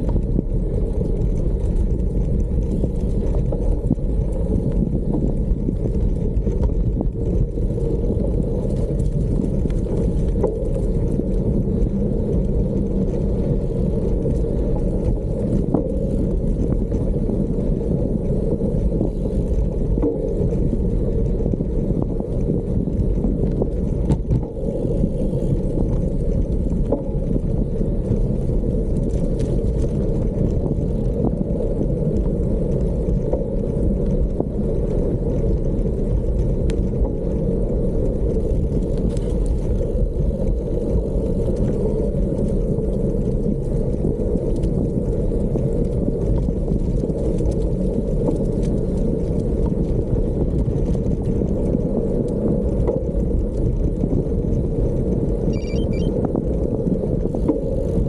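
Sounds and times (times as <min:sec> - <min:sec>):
rumble of riding on gravel: 0:00.0 - 0:58.0
wind buffeting on microphone: 0:00.0 - 0:58.0.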